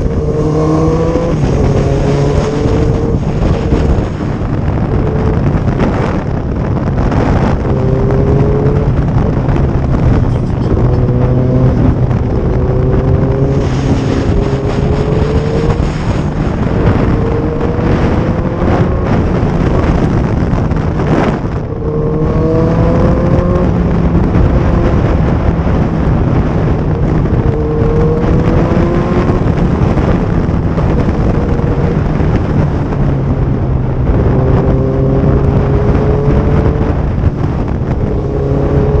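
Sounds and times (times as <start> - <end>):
motorcycle engine hum: 0.0 - 39.0
wind rush over microphone: 0.0 - 39.0.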